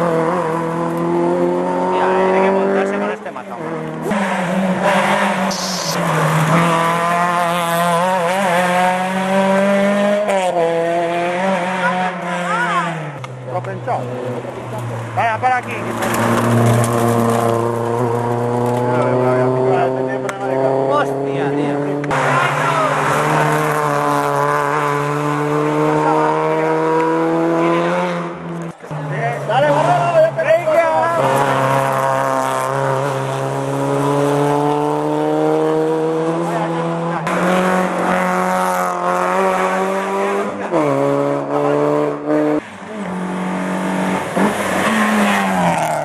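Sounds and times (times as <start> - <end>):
rally car engine at high revs: 0.0 - 46.0.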